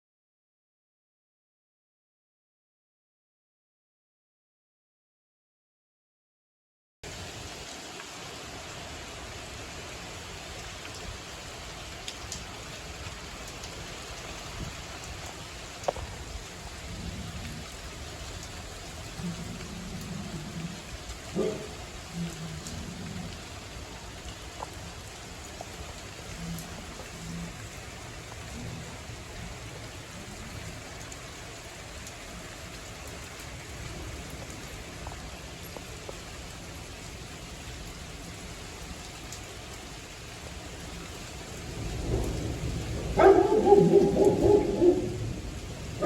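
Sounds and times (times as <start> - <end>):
steady rain falling: 7.0 - 46.0.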